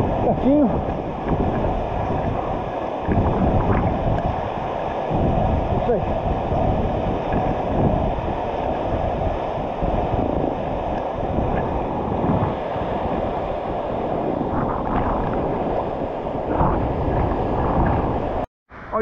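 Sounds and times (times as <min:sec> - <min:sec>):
waterfall roaring: 0:00.0 - 0:18.4
water splashing at microphone: 0:00.0 - 0:19.0.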